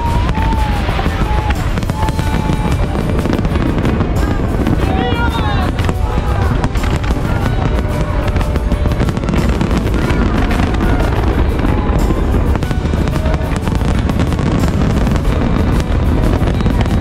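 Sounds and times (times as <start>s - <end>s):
fireworks bangs and crackles: 0.0s - 17.0s
music playing: 0.0s - 17.0s
steady low rumble: 0.0s - 17.0s.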